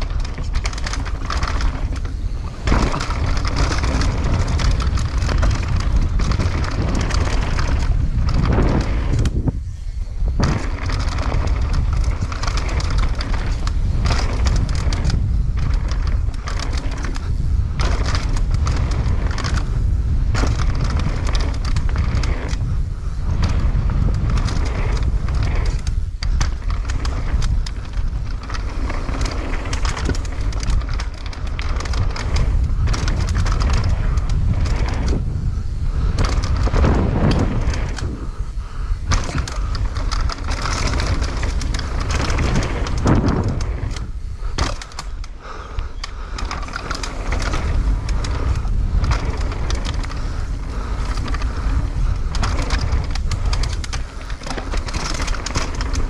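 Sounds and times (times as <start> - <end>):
bike rattling and knocking: 0.0 - 56.0
bike tyres rolling on dirt: 0.0 - 56.0
wind buffeting microphone: 0.0 - 56.0.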